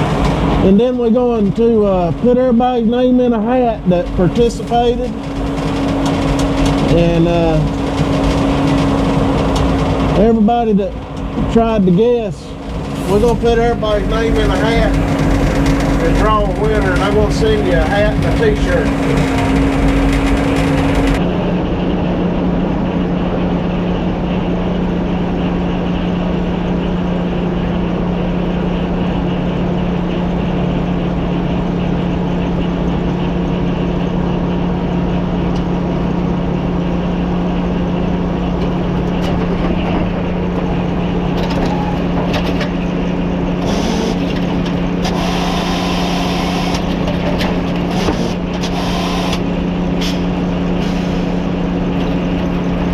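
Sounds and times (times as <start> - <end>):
machine rattle and clatter: 0.0 - 2.1, 3.3 - 21.4, 25.3 - 45.3, 46.4 - 50.8
sawmill machine hum: 0.0 - 52.9.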